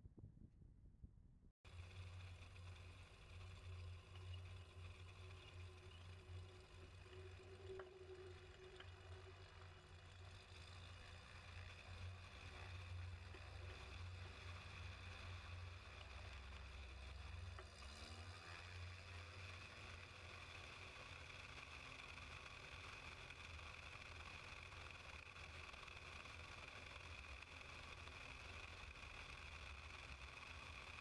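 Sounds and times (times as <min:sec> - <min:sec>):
faint propeller plane engine drone: 0:01.7 - 0:31.0.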